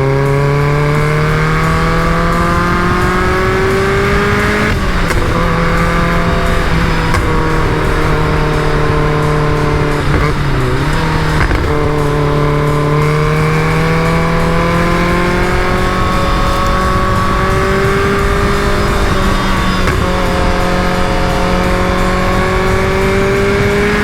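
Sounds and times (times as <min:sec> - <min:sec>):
car engine running: 0:00.0 - 0:24.0
road and wind noise: 0:00.0 - 0:24.0.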